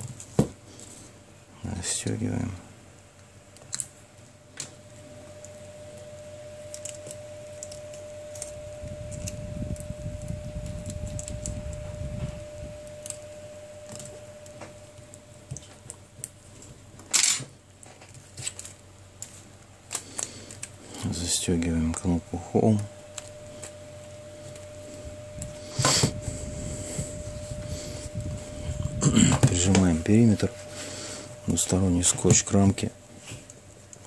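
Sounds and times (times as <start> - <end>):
faint steady whine: 0.0 - 34.0.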